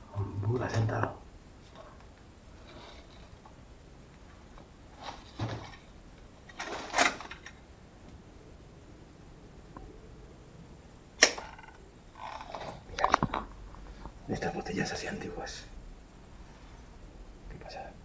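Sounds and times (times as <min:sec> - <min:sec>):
faint room tone: 0:00.0 - 0:18.0.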